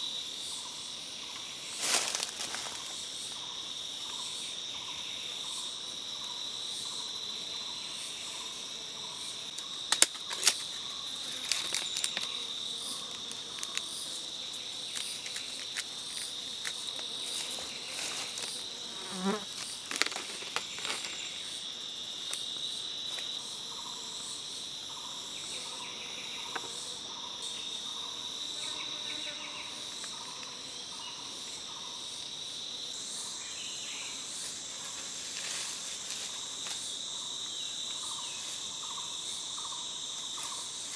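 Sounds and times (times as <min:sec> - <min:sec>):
forest insects droning: 0:00.0 - 0:40.9.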